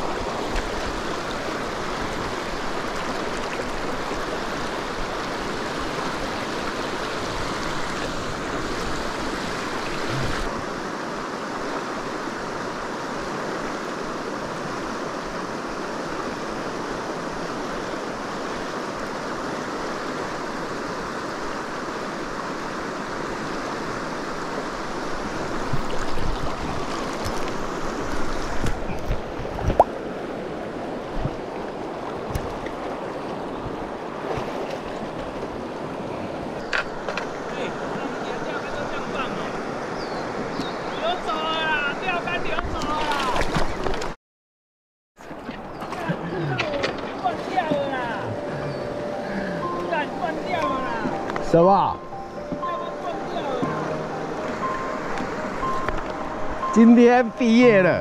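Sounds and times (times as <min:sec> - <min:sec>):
river rushing over rocks: 0:00.0 - 0:43.8, 0:45.6 - 0:58.0.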